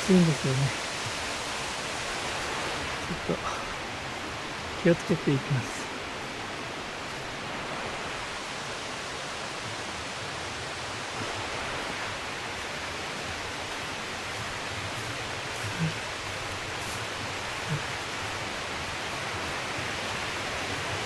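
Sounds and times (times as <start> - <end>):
stream and waterfall rushing: 0.0 - 21.0.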